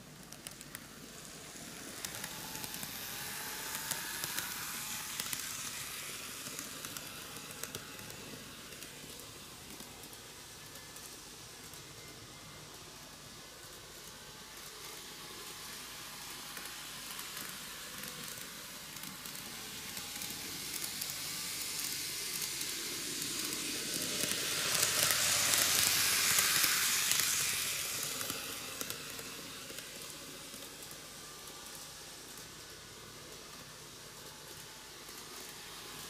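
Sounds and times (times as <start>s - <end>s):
model train running on track: 0.0s - 36.0s.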